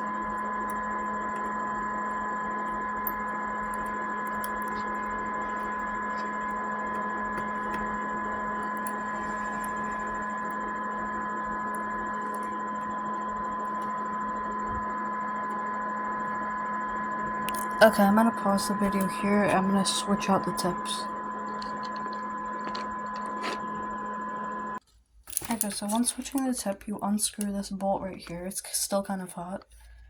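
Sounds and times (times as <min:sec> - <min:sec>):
fixed electronic tones: 0:00.0 - 0:24.8
electrical hum and hiss: 0:00.0 - 0:29.1.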